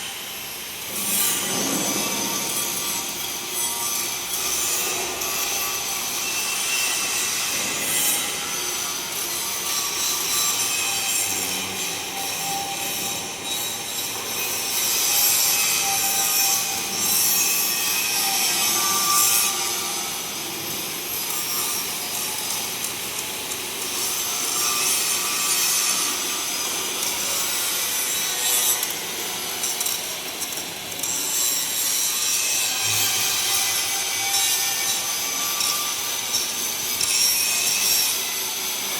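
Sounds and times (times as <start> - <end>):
angle grinder grinding metal: 0.2 - 38.9.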